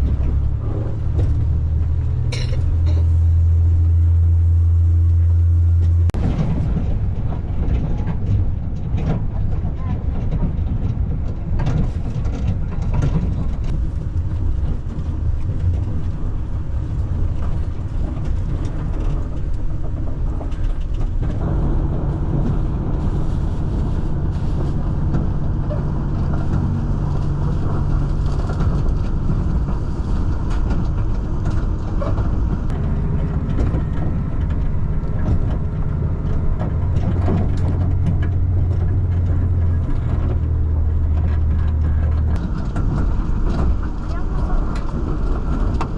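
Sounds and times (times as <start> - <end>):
diesel train rumbling: 0.0 - 45.9
low engine drone: 0.0 - 45.9.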